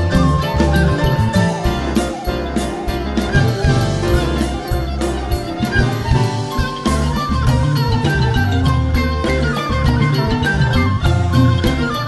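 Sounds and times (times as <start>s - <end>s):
background music with beat: 0.0s - 12.0s
light tinkling percussion: 0.0s - 12.0s.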